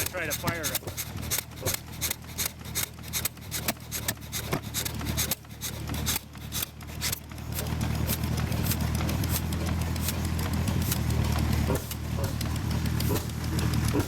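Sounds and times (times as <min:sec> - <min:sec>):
low hum of engines: 0:00.0 - 0:14.0
single-cylinder engine clicking: 0:00.0 - 0:14.0.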